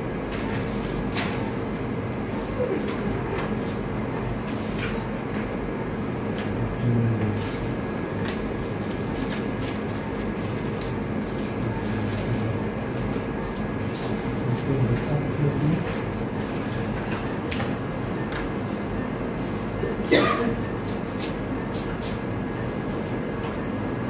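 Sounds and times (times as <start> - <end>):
machinery hum and hiss: 0.0 - 24.0.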